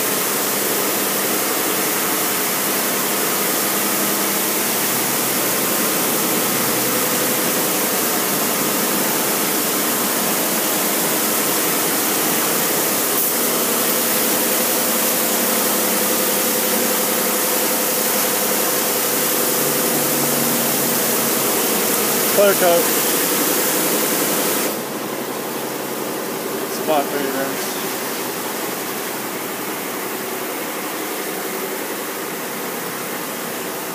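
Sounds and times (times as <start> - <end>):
water spraying over a car: 0.0 - 33.9
machine hum: 3.2 - 33.9.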